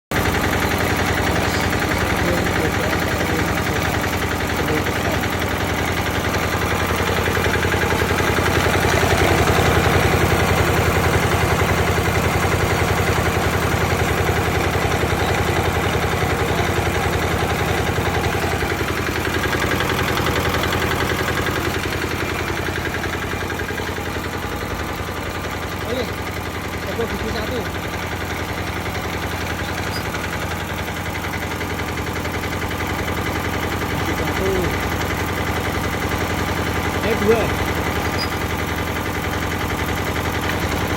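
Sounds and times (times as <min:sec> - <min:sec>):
drilling rig engine running: 0:00.1 - 0:40.9.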